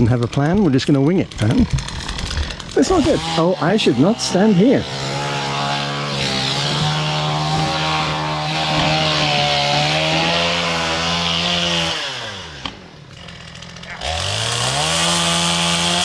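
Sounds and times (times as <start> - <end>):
chainsaw cutting tree trunk: 0.0 - 16.0.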